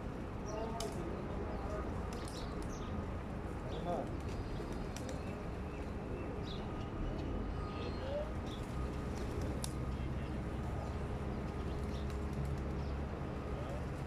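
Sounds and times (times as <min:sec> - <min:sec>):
low rumble of road traffic: 0:00.0 - 0:14.0.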